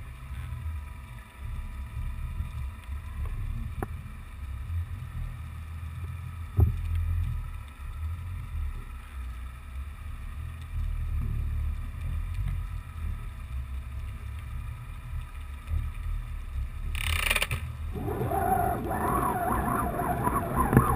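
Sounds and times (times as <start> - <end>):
muffled underwater water rumble: 0.0 - 16.9, 17.8 - 20.9.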